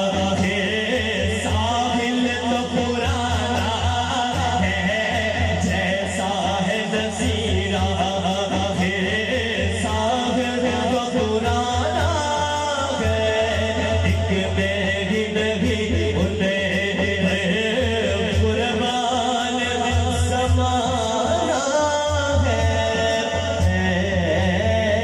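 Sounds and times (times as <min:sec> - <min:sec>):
man singing into a microphone: 0:00.0 - 0:25.0.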